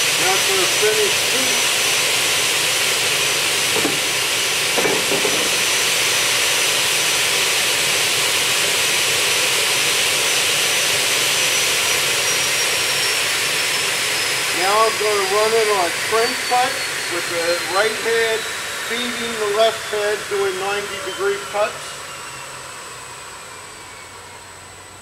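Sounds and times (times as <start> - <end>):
saw blades spinning with whine: 0.0 - 25.0.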